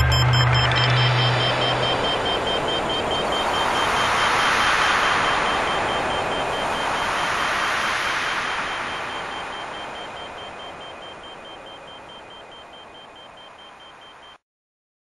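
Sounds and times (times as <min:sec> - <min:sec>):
steady rushing noise: 0:00.0 - 0:12.7
faint high pulsing beep: 0:00.0 - 0:14.4.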